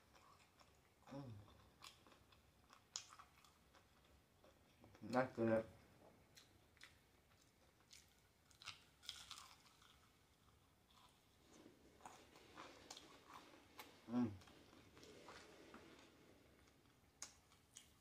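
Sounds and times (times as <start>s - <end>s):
chewing and crunching food: 0.0s - 5.4s, 6.2s - 18.0s.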